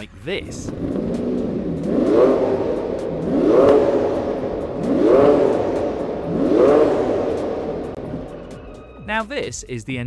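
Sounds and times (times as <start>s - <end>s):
engine revving from idle: 0.6s - 8.8s.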